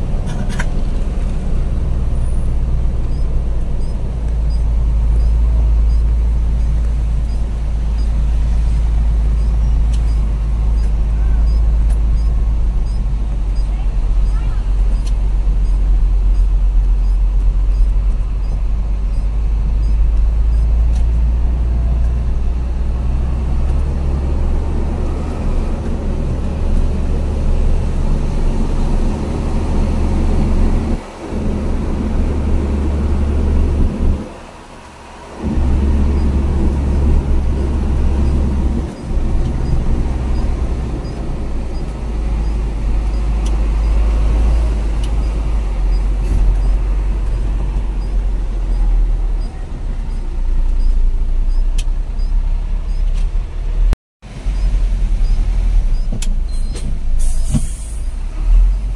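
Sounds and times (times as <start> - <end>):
truck engine rumble: 0.0 - 58.9.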